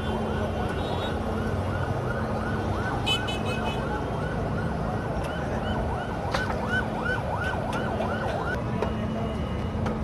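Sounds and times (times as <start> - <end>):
street hubbub: 0.0 - 10.0.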